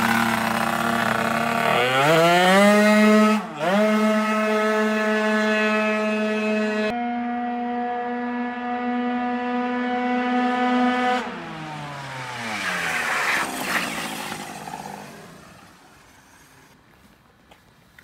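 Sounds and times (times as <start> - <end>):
scooter engine at full throttle: 0.0 - 16.8.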